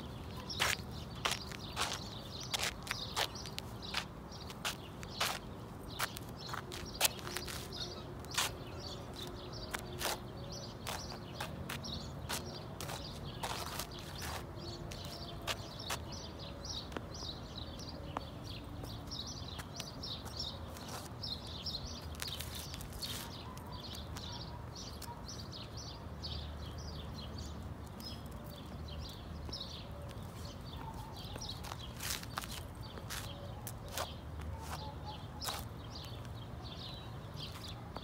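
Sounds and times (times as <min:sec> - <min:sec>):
shoes scraping on concrete: 0:00.0 - 0:25.7, 0:27.3 - 0:38.0.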